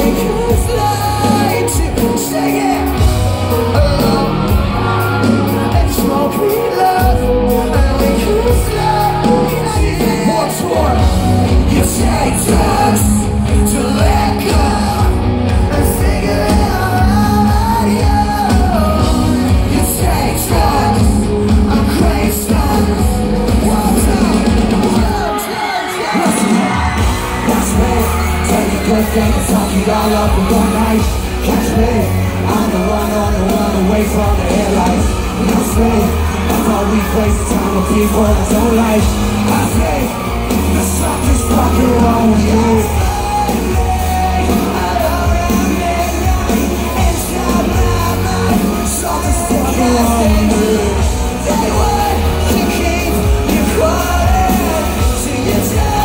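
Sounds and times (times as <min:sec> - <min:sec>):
live band playing: 0:00.0 - 0:56.0
vocals yelled and sung: 0:00.0 - 0:56.0.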